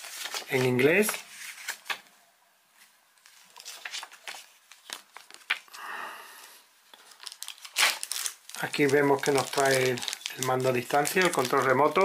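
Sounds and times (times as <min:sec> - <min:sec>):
paper rustling: 0:00.0 - 0:02.1, 0:02.8 - 0:05.7, 0:07.0 - 0:12.0.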